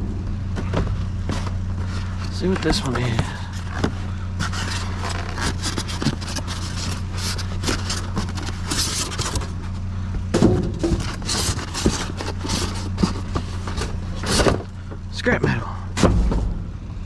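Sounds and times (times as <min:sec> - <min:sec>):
vehicle engine humming: 0:00.0 - 0:17.0
rummaging through scrap metal: 0:00.4 - 0:16.7.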